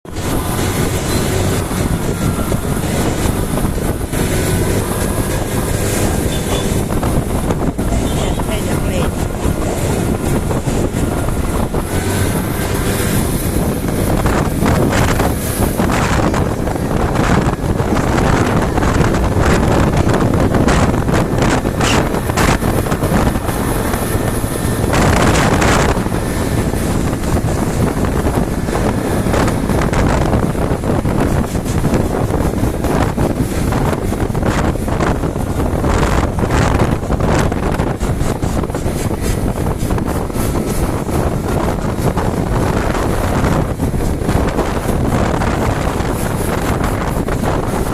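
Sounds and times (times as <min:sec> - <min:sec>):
motorcycle engine and road noise: 0:00.0 - 0:47.9
wind buffeting microphone: 0:00.0 - 0:47.9.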